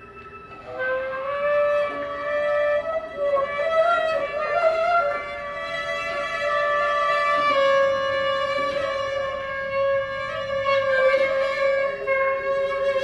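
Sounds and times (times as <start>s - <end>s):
slow cello and saxophone music: 0.0s - 13.0s.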